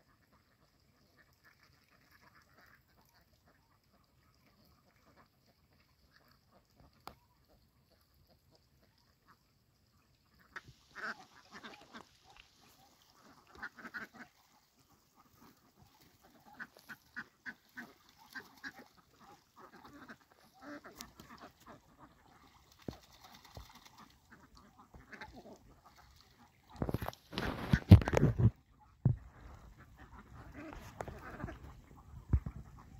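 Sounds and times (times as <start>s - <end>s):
ducks quacking faintly: 0.0s - 32.9s.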